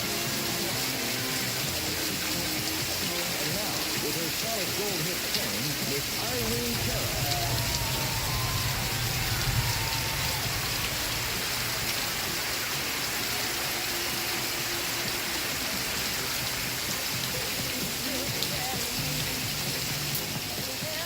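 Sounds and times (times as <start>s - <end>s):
faint music: 0.0s - 21.0s
steady rain: 0.0s - 21.0s.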